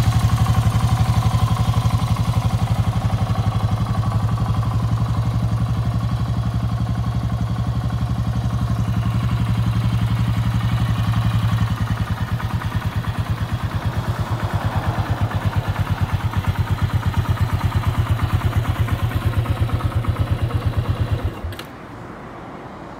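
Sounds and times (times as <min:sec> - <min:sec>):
motorcycle engine idling: 0:00.0 - 0:21.7.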